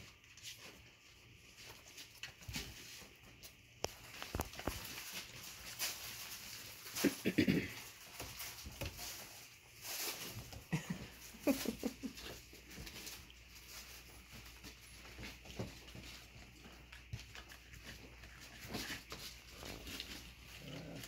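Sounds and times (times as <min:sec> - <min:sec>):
puppies scuffling and pattering paws: 0:00.0 - 0:21.0.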